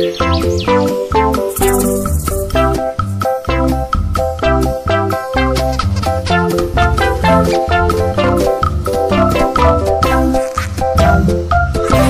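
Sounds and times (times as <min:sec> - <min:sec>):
upbeat music with keyboard melody: 0:00.0 - 0:12.0.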